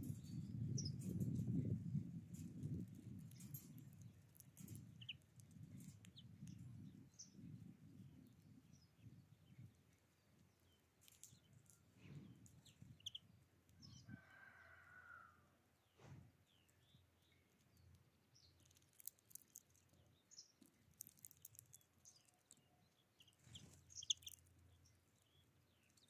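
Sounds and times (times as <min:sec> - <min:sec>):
bird chirps and clicks: 0:00.0 - 0:01.4, 0:02.3 - 0:07.6, 0:08.2 - 0:14.2, 0:16.5 - 0:26.0.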